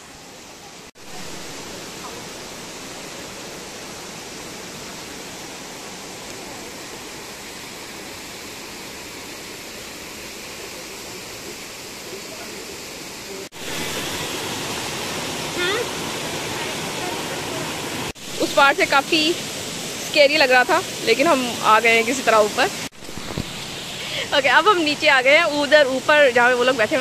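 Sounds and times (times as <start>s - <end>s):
stream cascading over boulders: 0.0s - 27.0s.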